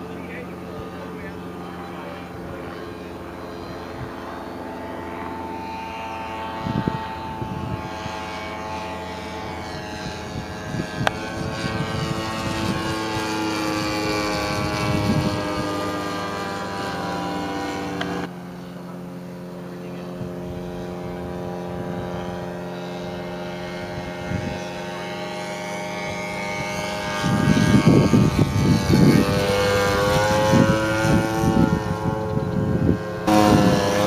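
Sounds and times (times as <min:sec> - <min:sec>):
model plane engine drone: 0:00.0 - 0:34.0.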